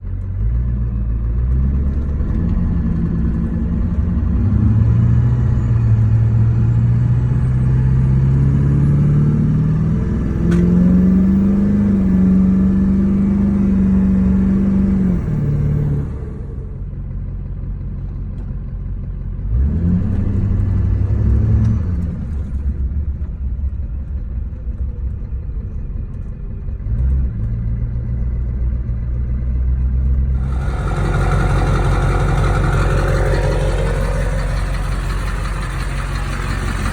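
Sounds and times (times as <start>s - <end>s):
diesel engine running: 0.0s - 26.9s, 30.1s - 36.9s.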